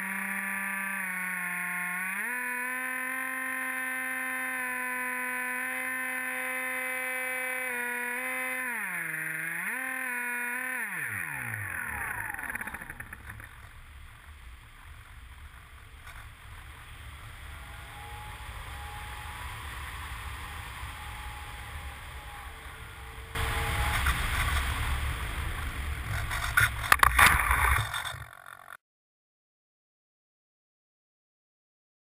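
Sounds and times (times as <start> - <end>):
plane scraping over grass: 0.0 - 28.7
model plane motor winding down: 0.0 - 28.8.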